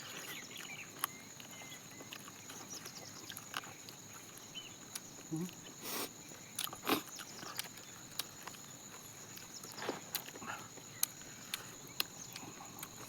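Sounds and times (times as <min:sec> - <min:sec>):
crunching of eating fried chicken: 0:00.0 - 0:13.0.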